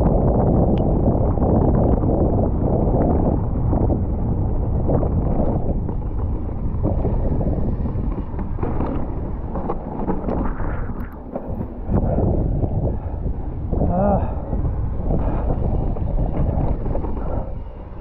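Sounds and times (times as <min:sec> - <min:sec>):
bike knocks and rattles: 0:00.0 - 0:17.8
wind rumbling on microphone: 0:00.0 - 0:18.0
tyre noise on dirt: 0:00.2 - 0:18.0.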